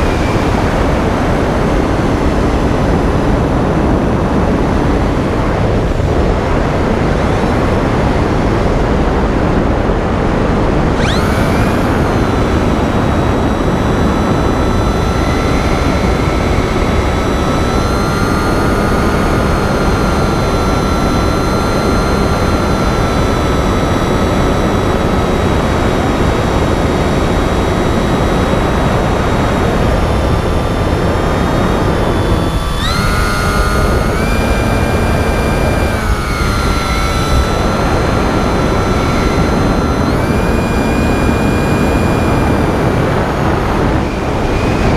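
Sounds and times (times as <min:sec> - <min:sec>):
electric motor and propeller whine: 0:00.0 - 0:44.9
wind rushing over camera: 0:00.0 - 0:44.9.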